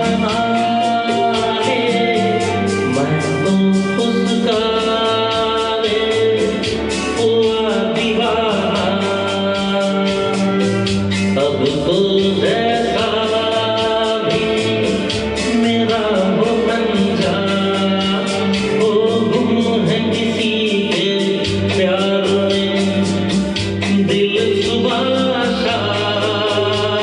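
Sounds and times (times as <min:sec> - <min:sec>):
person singing: 0:00.0 - 0:27.0
steady percussion beat: 0:00.0 - 0:27.0.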